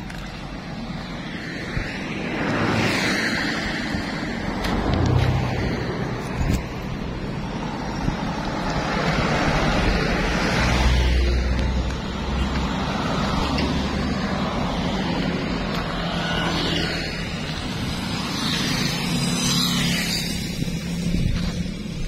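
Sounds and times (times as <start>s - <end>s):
car passing: 1.2s - 21.5s.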